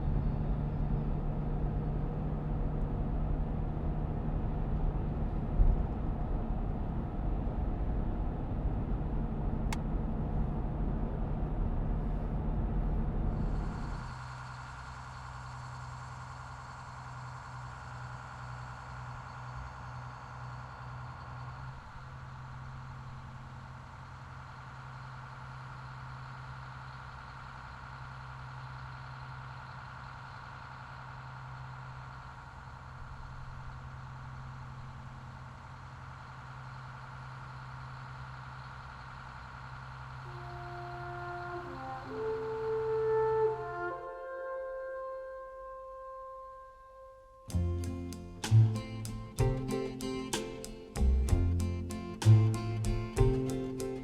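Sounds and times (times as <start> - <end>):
railway engine rumble: 0.0 - 54.0.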